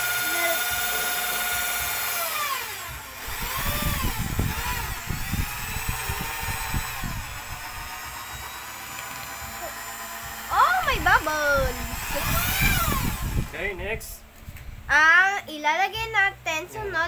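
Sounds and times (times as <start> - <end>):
electric drill motor whining: 0.0 - 14.0.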